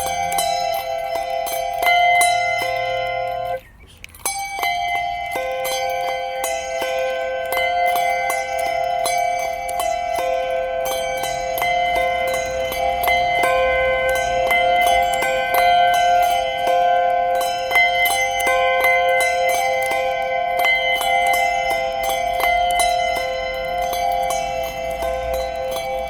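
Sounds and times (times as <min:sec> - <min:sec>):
handbells ringing: 0:00.0 - 0:26.0.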